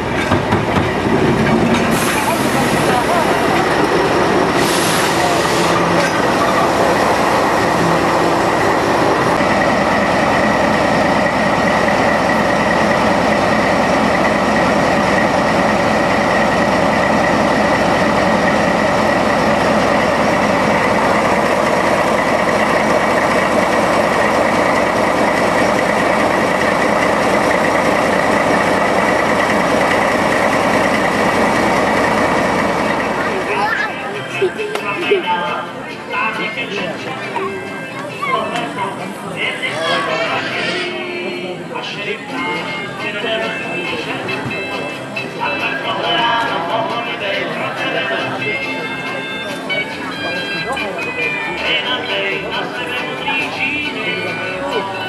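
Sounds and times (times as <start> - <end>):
diesel locomotive running: 0.0 - 55.0.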